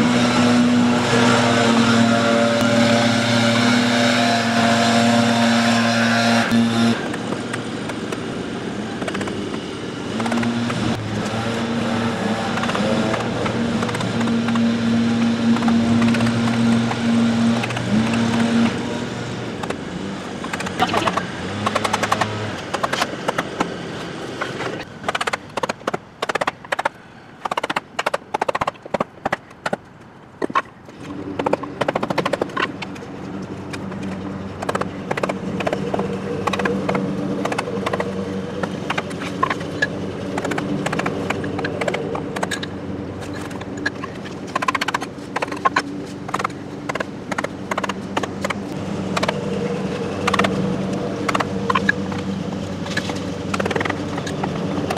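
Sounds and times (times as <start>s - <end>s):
low mechanical hum: 0.0s - 54.9s.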